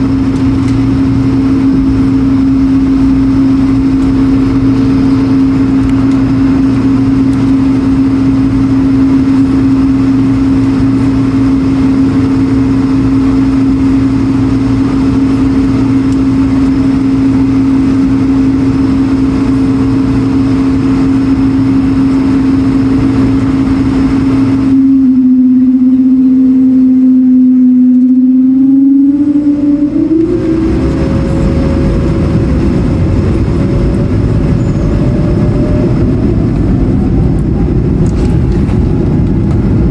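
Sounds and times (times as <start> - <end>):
jet engine cabin hum: 0.0 - 39.9.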